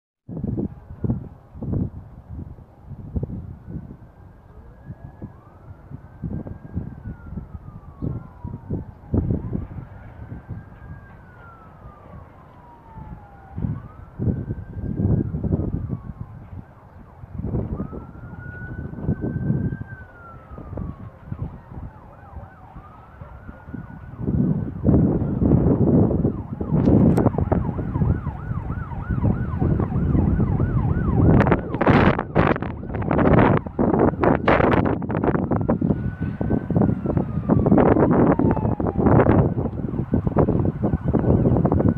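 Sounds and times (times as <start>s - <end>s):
distant siren wailing: 0.3s - 41.9s
wind buffeting microphone: 0.3s - 41.9s.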